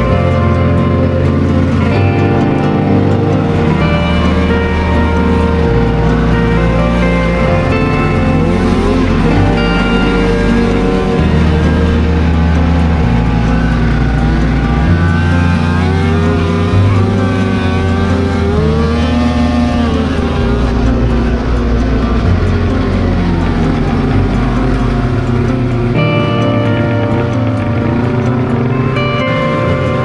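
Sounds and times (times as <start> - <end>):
snowmobile engine running: 0.0 - 30.0.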